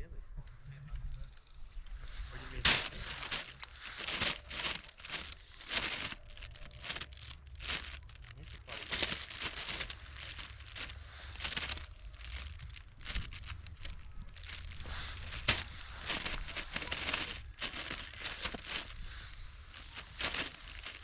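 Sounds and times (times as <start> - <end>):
rustling and crinkling: 0.7 - 21.0.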